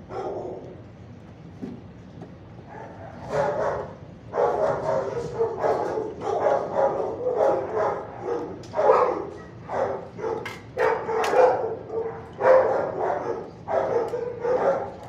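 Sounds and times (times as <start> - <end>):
dogs barking: 0.0 - 0.8, 2.6 - 15.0.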